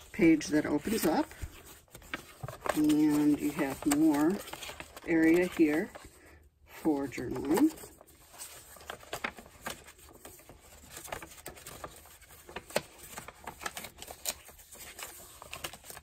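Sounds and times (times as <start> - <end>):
paper being folded: 0.0 - 16.0
paper rustling and creasing: 0.0 - 16.0.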